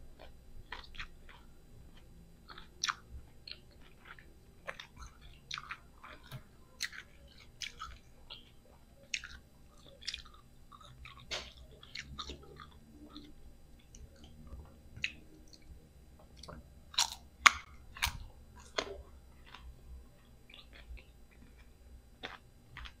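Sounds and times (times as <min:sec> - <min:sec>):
crunchy chewing: 0:00.1 - 0:23.0.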